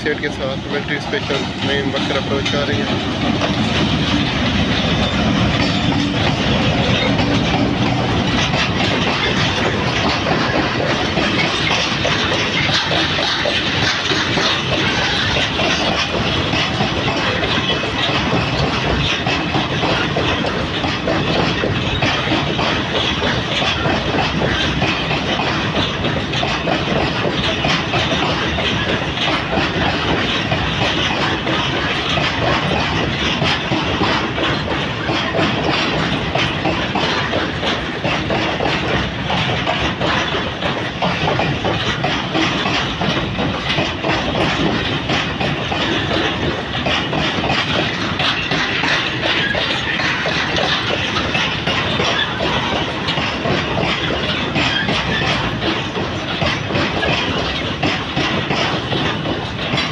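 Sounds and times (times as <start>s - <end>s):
diesel locomotive passing: 0.0s - 59.9s
wheels clacking over rail joints: 0.0s - 59.9s.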